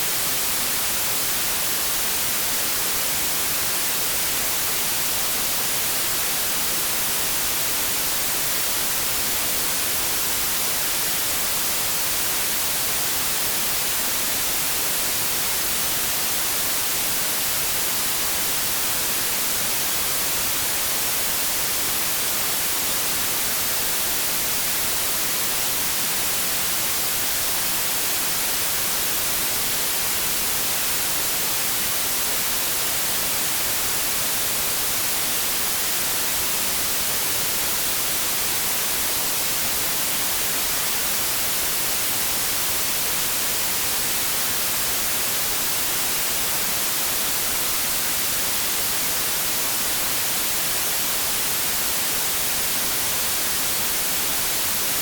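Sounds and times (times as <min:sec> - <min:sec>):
white noise static hiss: 0:00.0 - 0:55.0.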